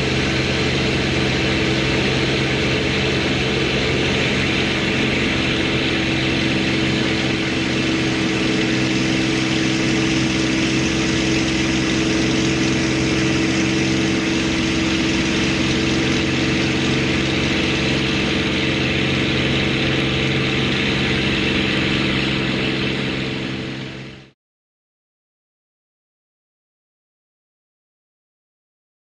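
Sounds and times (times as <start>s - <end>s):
rushing airflow: 0.0s - 24.3s
aircraft piston engine droning: 0.0s - 24.4s.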